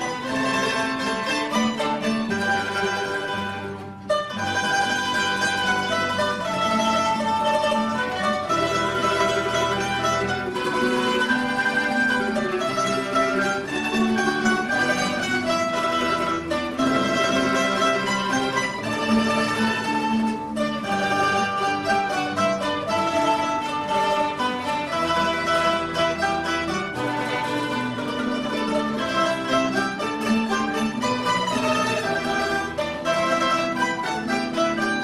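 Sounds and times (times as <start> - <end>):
mandolin and guitar ensemble: 0.0 - 35.0.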